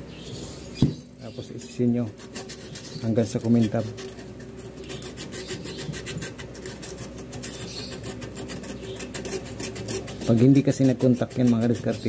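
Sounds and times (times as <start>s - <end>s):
sandpaper rubbing on metal: 1.4s - 12.0s.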